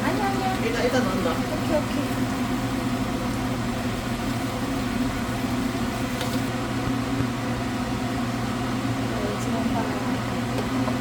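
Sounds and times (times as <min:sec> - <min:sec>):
range hood fan humming: 0:00.0 - 0:11.0.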